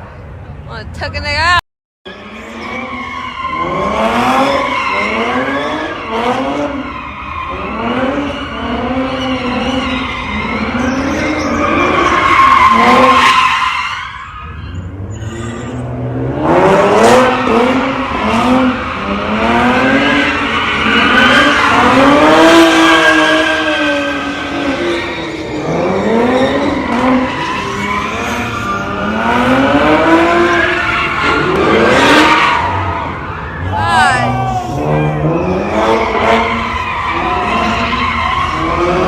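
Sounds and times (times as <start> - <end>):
car engine revving: 2.1 - 13.3, 14.9 - 39.0
tyres squealing and skidding: 2.1 - 39.0.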